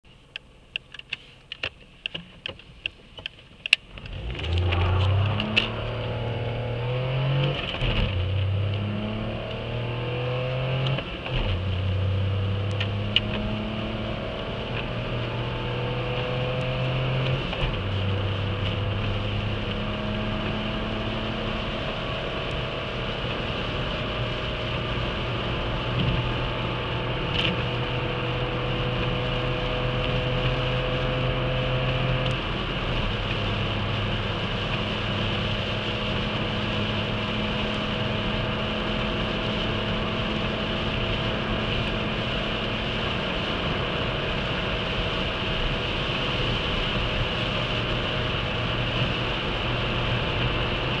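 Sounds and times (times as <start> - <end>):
car engine accelerating: 3.7 - 51.0.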